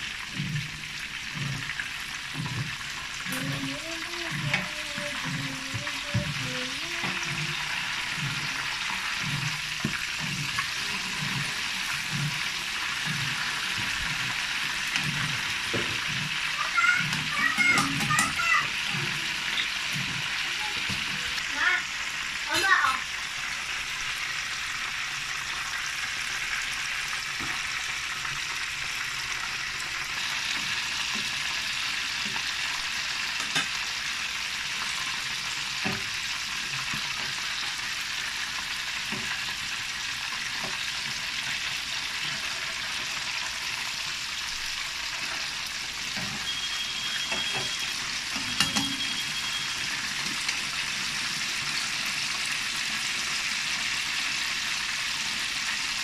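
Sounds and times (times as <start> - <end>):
oil bubbling and sizzling: 0.0 - 56.0.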